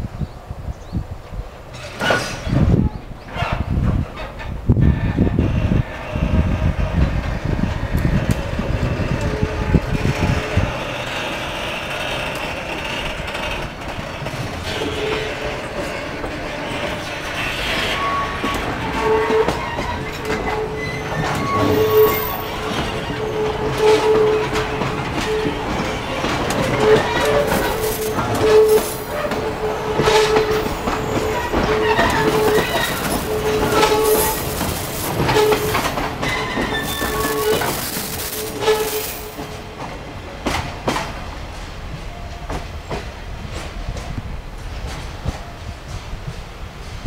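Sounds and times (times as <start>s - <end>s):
train running gear squealing: 1.7s - 41.1s
train wheels clacking on rails: 1.7s - 47.0s.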